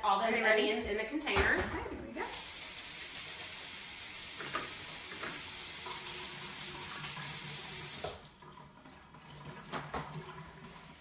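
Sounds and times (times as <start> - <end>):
kitchen tap running into sink: 1.4 - 11.0.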